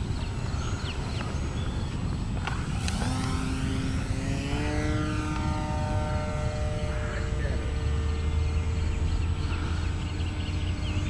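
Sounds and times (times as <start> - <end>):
model plane motor whine: 0.0 - 11.0
steady low rumble: 0.0 - 11.0.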